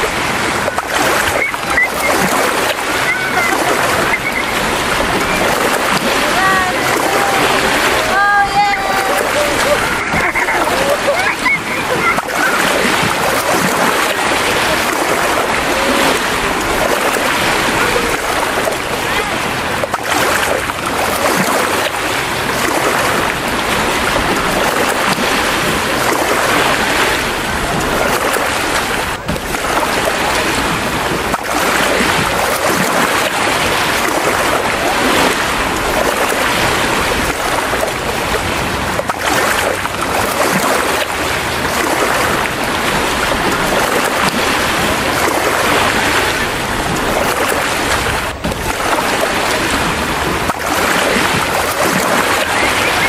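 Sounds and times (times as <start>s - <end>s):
waves rushing and splashing: 0.0s - 53.0s.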